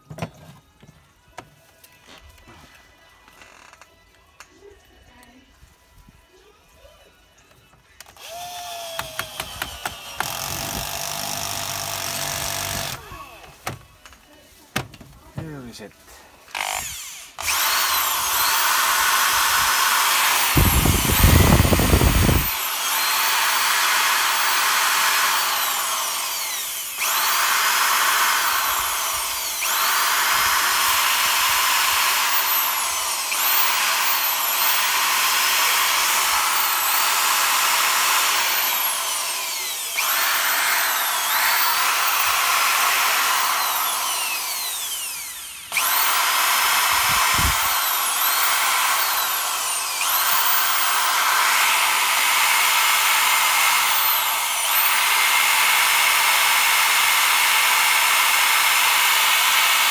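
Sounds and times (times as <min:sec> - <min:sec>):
electric drill motor revving: 0:08.0 - 0:13.1, 0:16.5 - 0:59.9.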